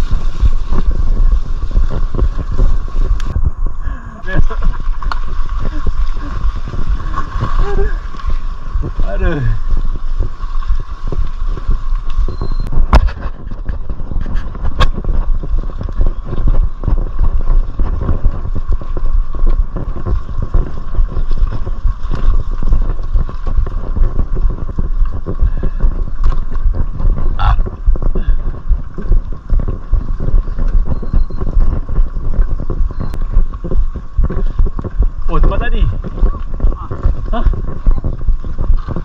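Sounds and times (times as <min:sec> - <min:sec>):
bike rattles and knocks: 0:00.0 - 0:03.7, 0:04.3 - 0:39.0
wind buffeting microphone: 0:00.0 - 0:39.0.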